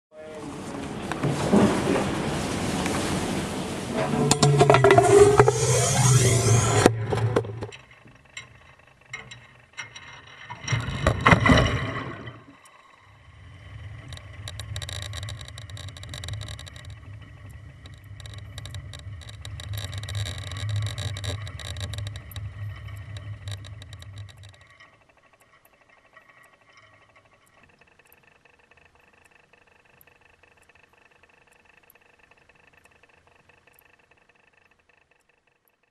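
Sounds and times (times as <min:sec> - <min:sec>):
low underwater hum: 0:00.2 - 0:35.9
crackling: 0:00.3 - 0:35.8.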